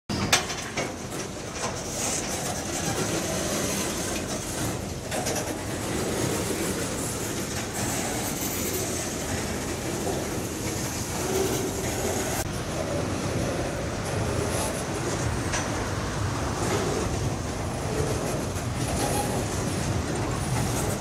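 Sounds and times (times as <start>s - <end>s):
train wheels rumbling on rails: 0.1s - 21.0s.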